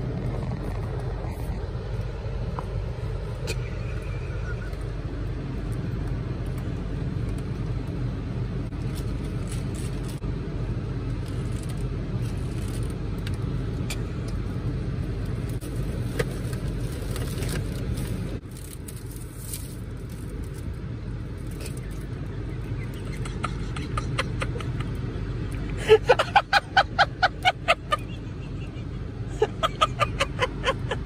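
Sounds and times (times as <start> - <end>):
car cabin low hum: 0.0 - 31.0.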